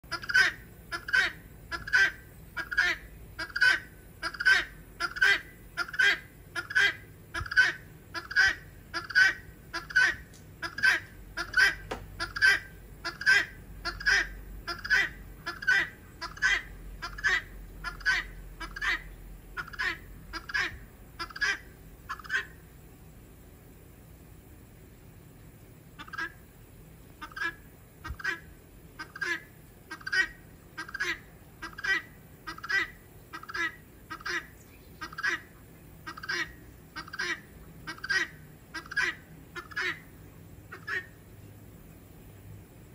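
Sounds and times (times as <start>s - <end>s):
guineafowl calling: 0.0s - 22.7s, 26.0s - 26.4s, 27.2s - 41.2s.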